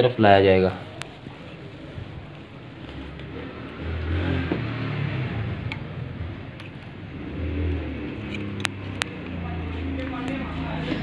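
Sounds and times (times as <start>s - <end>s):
vehicle engine revving: 1.2s - 11.0s.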